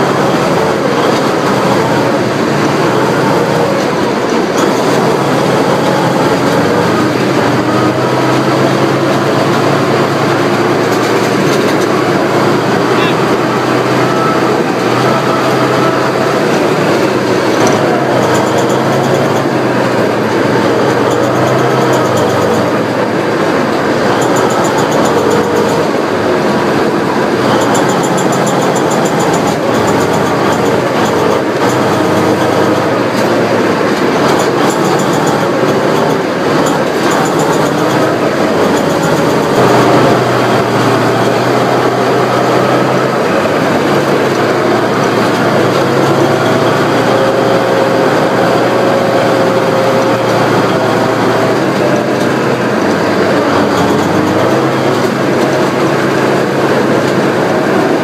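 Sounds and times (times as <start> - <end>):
tank engine and tracks: 0.0 - 58.0
wavering whine: 0.0 - 58.0.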